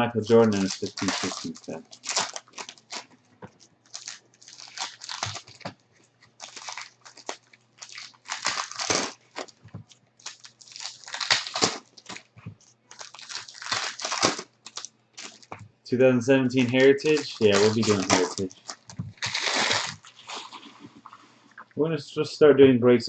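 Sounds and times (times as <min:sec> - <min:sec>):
card wrappers crinkling: 0:00.0 - 0:15.6, 0:16.4 - 0:20.9.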